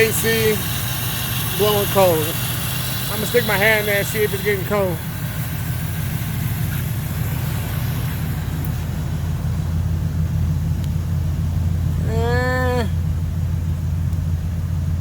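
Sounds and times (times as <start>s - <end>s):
car idling with air conditioning: 0.0s - 15.0s.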